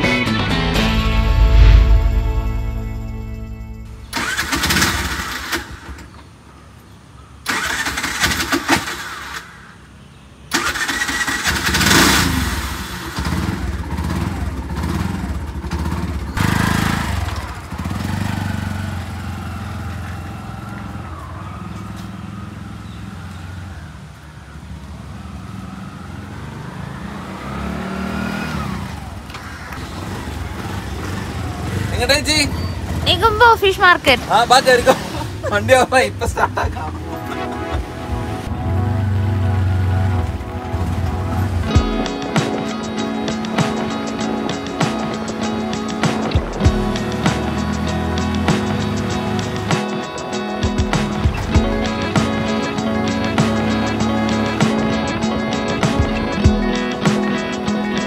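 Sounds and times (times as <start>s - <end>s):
auto-rickshaw engine running: 3.8s - 58.0s.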